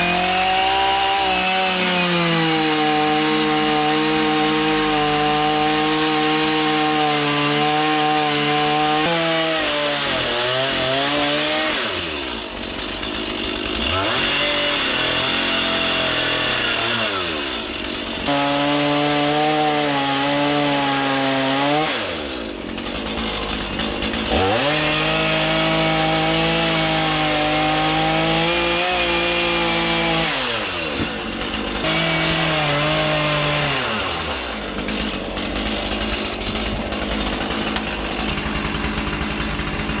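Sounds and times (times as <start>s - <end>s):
chainsaw cutting log: 0.0s - 40.0s.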